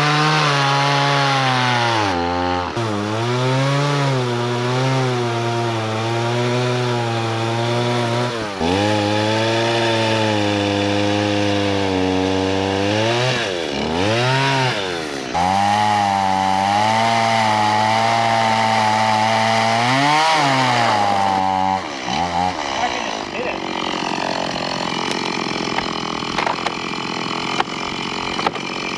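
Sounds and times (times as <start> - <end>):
chainsaw cutting log: 0.0 - 28.9.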